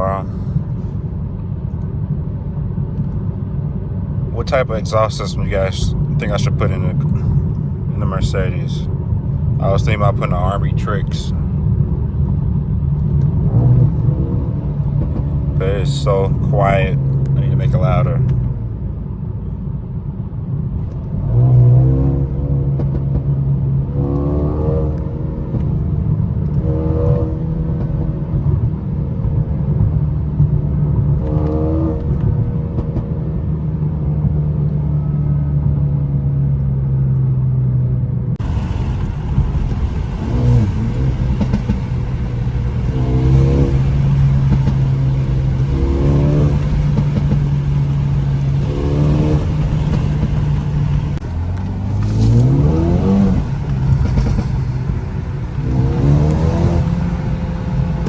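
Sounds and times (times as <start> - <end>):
car engine revving: 0.0 - 19.8, 20.4 - 36.8, 38.2 - 58.0.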